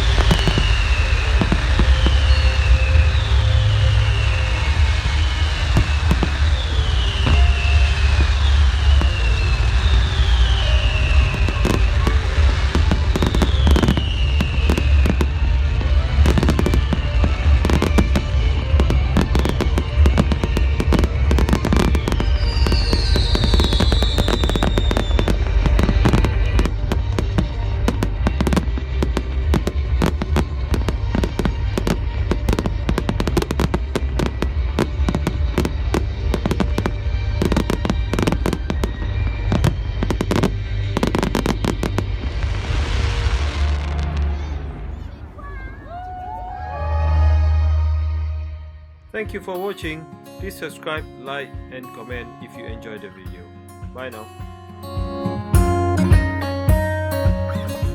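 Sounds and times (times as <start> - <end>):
fireworks crackling and banging: 0.0 - 46.1, 52.0 - 54.2
falling firework whistles: 0.0 - 47.5
steady deep rumble: 0.0 - 49.2.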